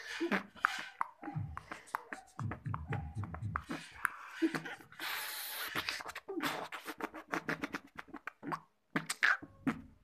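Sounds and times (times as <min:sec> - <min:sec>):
beatboxing clicks and pops: 0:00.0 - 0:10.0
beatboxing hiss: 0:00.0 - 0:10.0.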